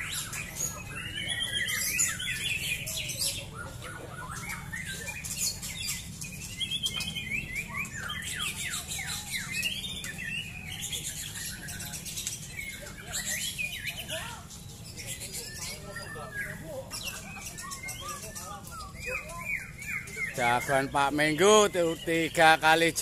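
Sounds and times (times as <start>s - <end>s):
birds singing whistled phrases: 0.0s - 23.0s.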